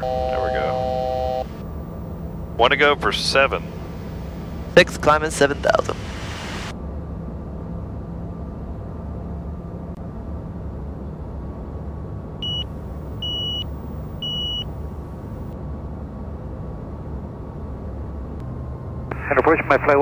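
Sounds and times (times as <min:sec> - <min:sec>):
jet engines and airflow hum: 0:00.0 - 0:20.0.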